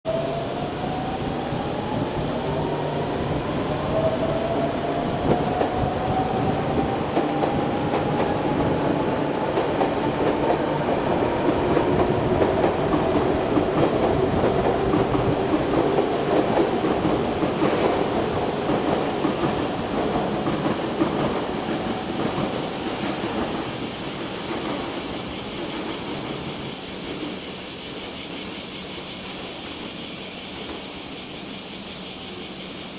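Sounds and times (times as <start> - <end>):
train wheels clattering on rail joints: 0.1 - 32.9.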